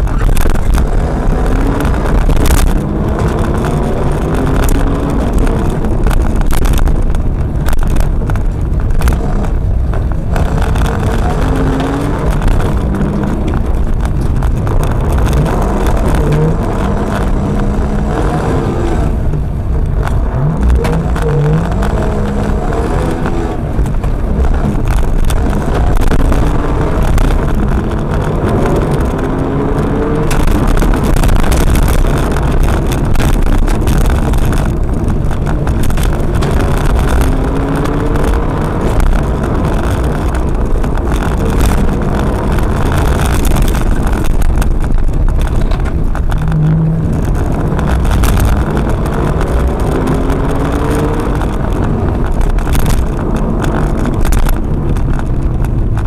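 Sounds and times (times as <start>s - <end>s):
car engine accelerating: 0.0s - 56.0s
tyres on gravel: 0.0s - 56.0s.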